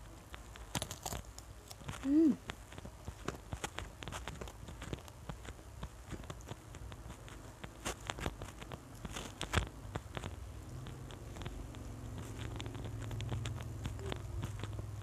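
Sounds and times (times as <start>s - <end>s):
low steady hum: 0.0s - 15.0s
person chewing with mouth sounds: 0.6s - 15.0s.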